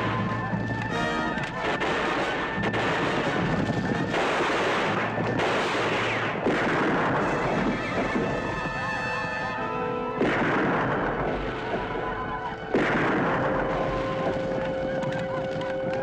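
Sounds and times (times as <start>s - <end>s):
dramatic background music: 0.0s - 16.0s
gunshots: 0.0s - 16.0s.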